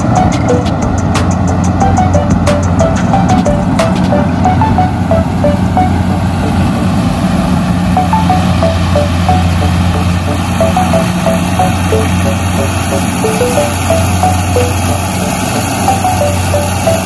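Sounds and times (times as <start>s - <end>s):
melodic background music: 0.0s - 6.9s, 7.9s - 17.0s
combine harvester running: 0.0s - 17.0s.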